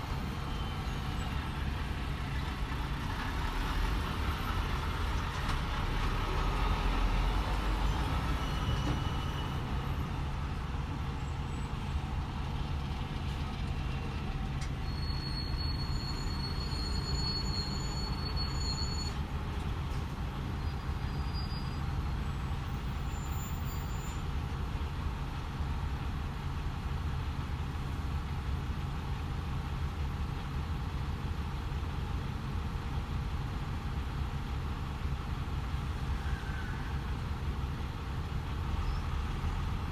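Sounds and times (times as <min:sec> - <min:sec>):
road noise: 0:00.0 - 0:39.9
truck diesel engine hum: 0:00.0 - 0:39.9.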